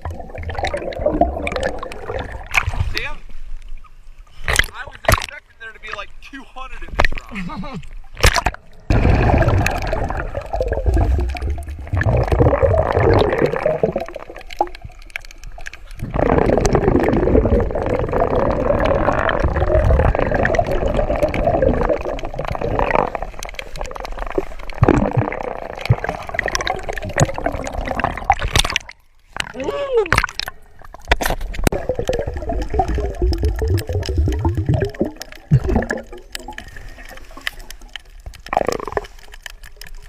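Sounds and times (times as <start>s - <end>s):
underwater bubbling and gurgling: 0.0s - 5.4s, 6.9s - 40.0s.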